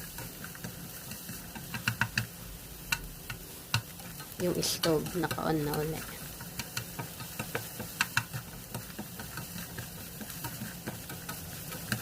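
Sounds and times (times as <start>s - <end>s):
faint sizzle: 0.0s - 12.0s
spatula tapping a frying pan: 0.0s - 12.0s.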